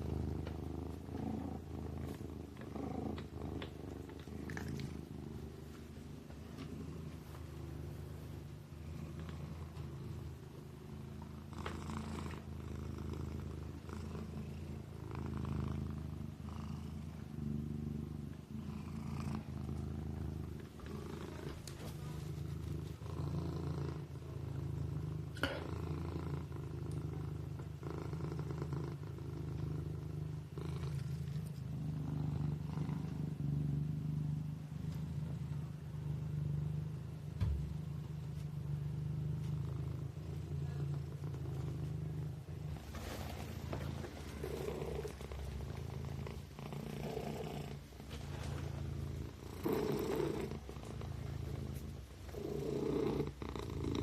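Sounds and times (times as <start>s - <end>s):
kitten purring: 0.0s - 54.0s.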